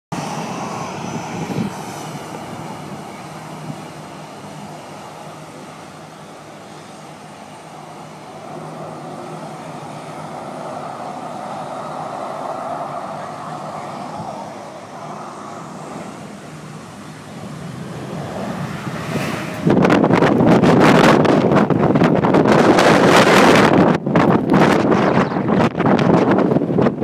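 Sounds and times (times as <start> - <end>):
high engine whine: 0.1 - 27.0
jet engines running at low thrust: 0.1 - 27.0.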